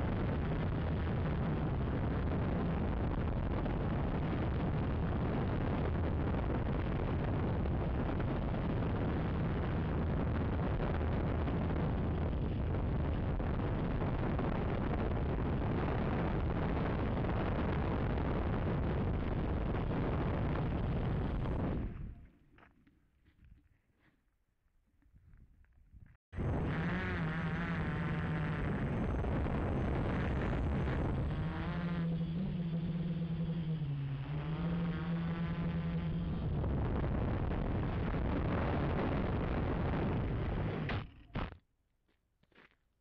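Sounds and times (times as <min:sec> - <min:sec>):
quadcopter motors and propellers: 0:00.0 - 0:22.2, 0:26.4 - 0:41.5
wind noise on microphone: 0:00.0 - 0:22.3, 0:25.1 - 0:41.6.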